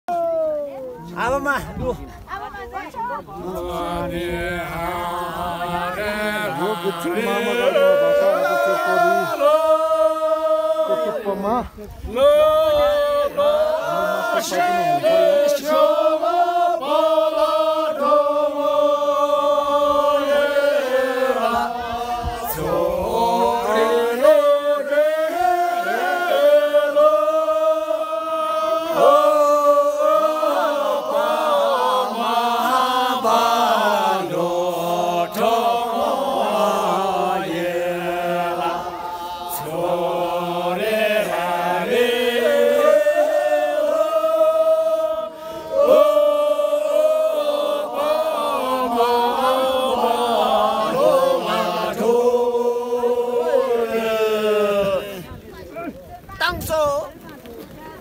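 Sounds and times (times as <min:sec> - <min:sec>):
men singing in unison: 0:03.4 - 0:55.3.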